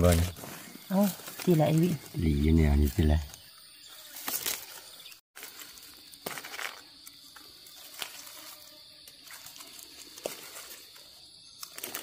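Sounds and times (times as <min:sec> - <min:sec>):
crackles and rustles: 0:00.0 - 0:12.0
high insect drone: 0:00.0 - 0:12.0.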